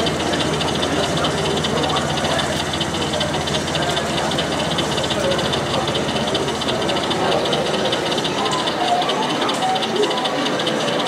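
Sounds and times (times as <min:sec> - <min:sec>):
model train running: 0:00.0 - 0:11.0
murmur of voices: 0:00.0 - 0:11.0.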